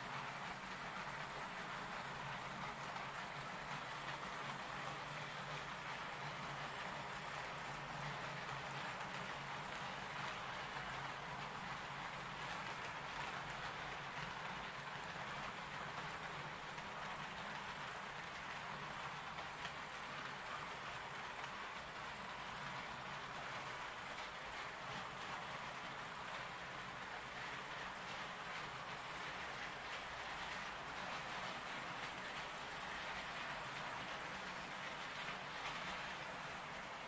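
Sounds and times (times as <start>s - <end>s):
model train running on track: 0.0s - 37.0s.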